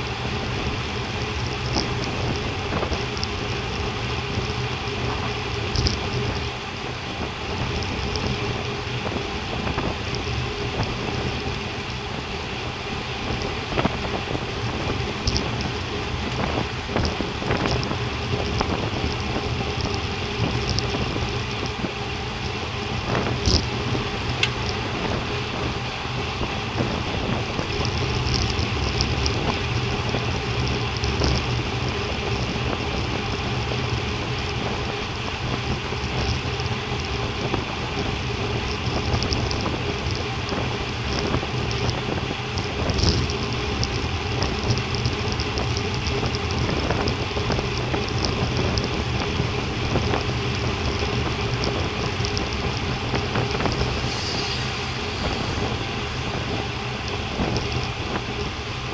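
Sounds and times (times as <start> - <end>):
bike tyres rumbling on asphalt: 0.0 - 58.9
wind on microphone: 0.0 - 58.9.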